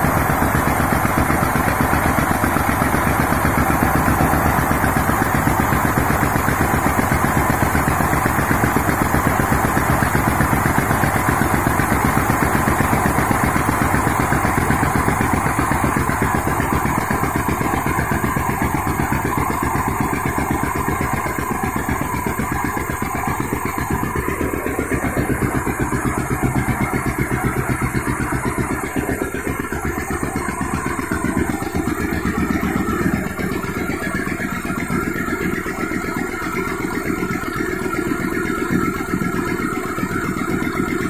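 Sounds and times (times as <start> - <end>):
diesel engine running under load: 0.0 - 41.0.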